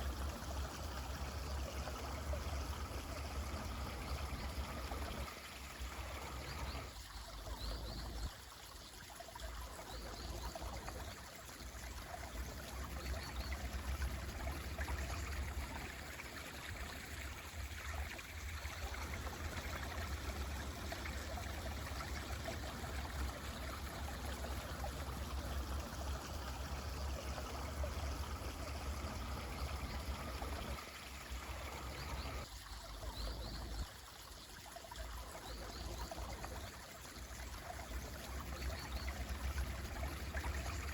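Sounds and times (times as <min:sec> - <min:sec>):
stream flowing and trickling: 0:00.0 - 0:40.9.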